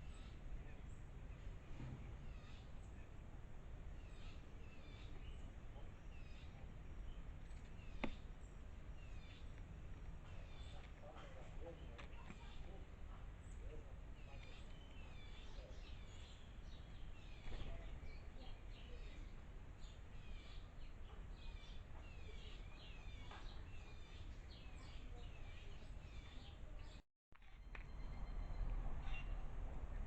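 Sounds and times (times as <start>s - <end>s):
outdoor background noise: 0.0s - 30.0s
small birds chirping: 0.0s - 30.0s.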